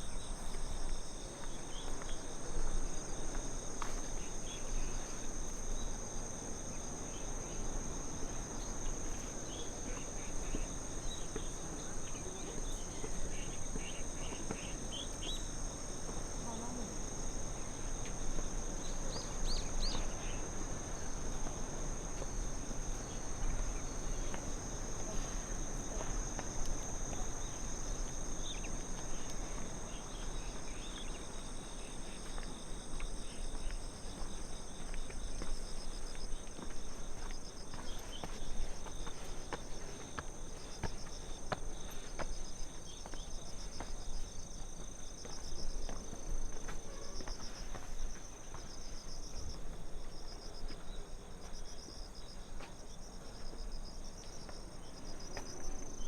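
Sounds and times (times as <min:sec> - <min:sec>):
crickets trilling: 0:00.0 - 0:56.0
low background noise: 0:00.0 - 0:56.0.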